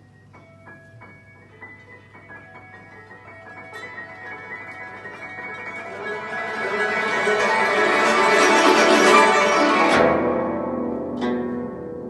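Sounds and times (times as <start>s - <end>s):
guzheng and piano playing: 0.0s - 12.0s.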